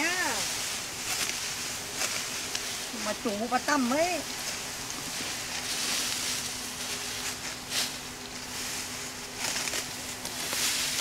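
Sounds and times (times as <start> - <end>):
faint steady hum: 0.0 - 11.0
rice stalks rustling: 0.0 - 11.0.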